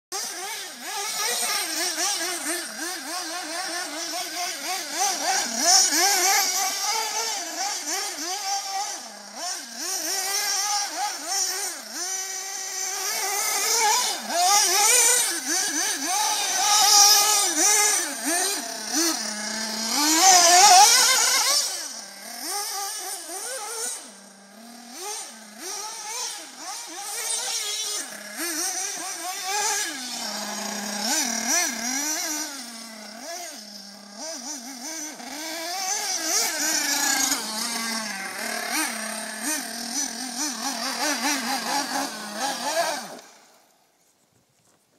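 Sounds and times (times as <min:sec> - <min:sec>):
model car engine revving: 0:00.1 - 0:44.0.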